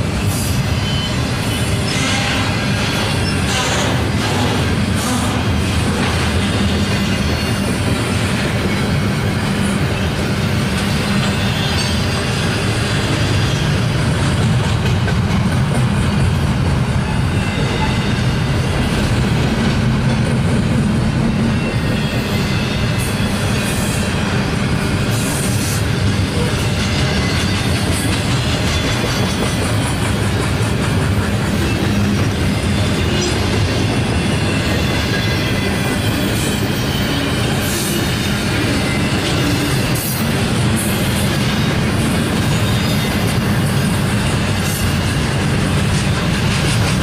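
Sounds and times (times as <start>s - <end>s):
freight train wheels rumbling on rail: 0.0s - 47.0s.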